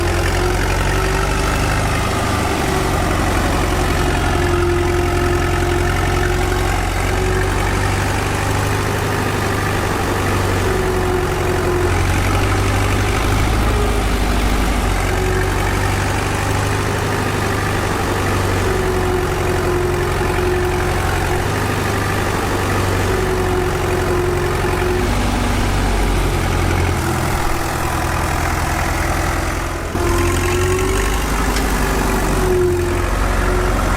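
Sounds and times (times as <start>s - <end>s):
small tractor engine idling: 0.0s - 33.9s.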